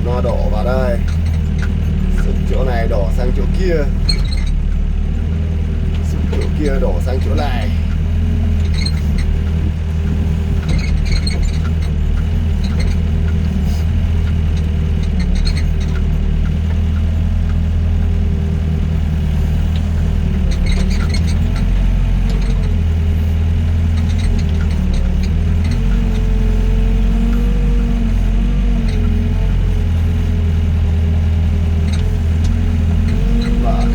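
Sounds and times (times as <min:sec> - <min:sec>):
excavator diesel engine running: 0:00.0 - 0:33.9
hydraulic whine: 0:00.0 - 0:33.9
light clicks and clanks: 0:00.2 - 0:05.0, 0:05.8 - 0:09.9, 0:10.5 - 0:33.9.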